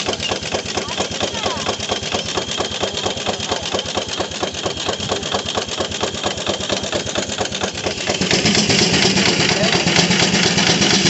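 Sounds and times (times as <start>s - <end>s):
steam engine beating rhythmically: 0.0s - 11.0s.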